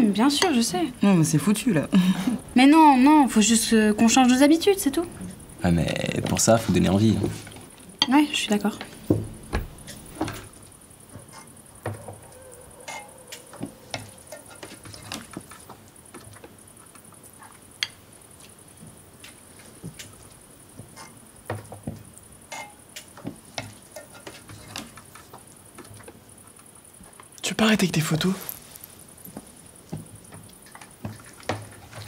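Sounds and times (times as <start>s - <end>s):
faint high hiss: 0.0s - 32.0s.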